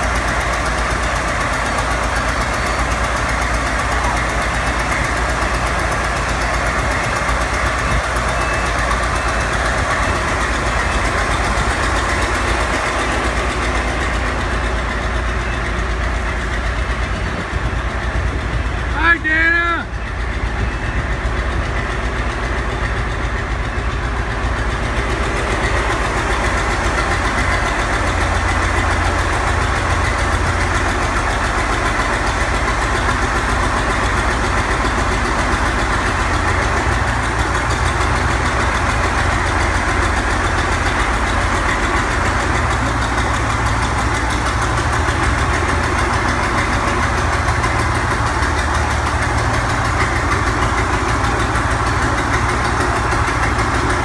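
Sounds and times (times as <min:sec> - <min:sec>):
crawler diesel engines idling: 0:00.0 - 0:54.0.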